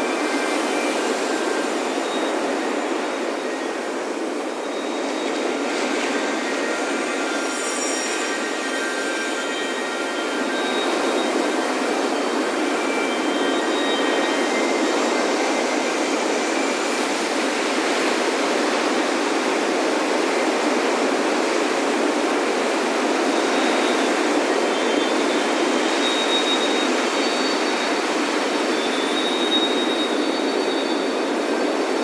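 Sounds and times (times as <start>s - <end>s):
faint high wind chimes: 0.0s - 32.0s.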